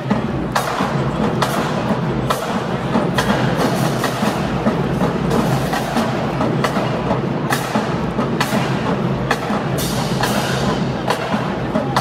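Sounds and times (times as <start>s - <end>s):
drum and cymbal accents: 0.0s - 12.0s
marching band playing: 0.0s - 12.0s.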